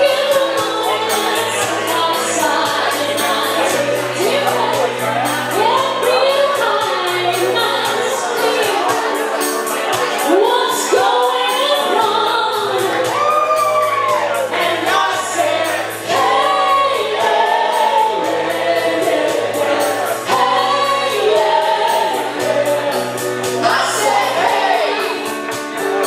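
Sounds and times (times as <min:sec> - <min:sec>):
live pop-rock music with singing: 0:00.0 - 0:26.0.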